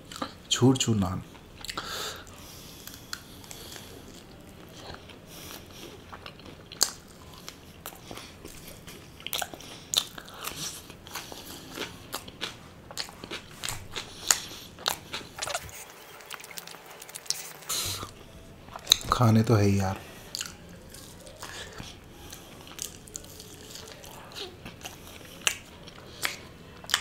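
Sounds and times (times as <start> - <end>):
crunchy bread being chewed: 1.3 - 19.1, 20.1 - 27.0.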